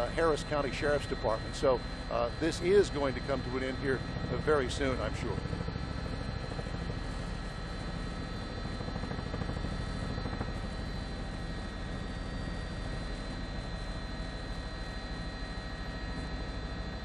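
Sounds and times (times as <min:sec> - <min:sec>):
helicopter rotor beat: 0:00.0 - 0:17.0
turbine engine whine: 0:00.0 - 0:17.0.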